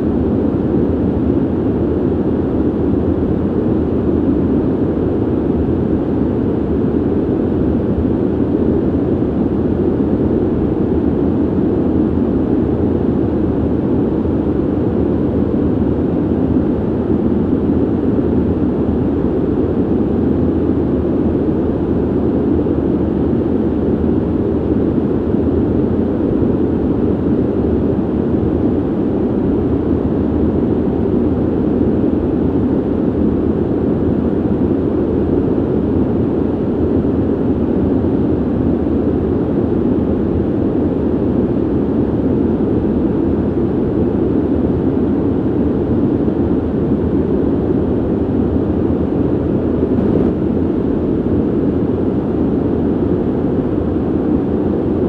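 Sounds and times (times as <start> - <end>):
ventilation air rush: 0.0 - 55.0.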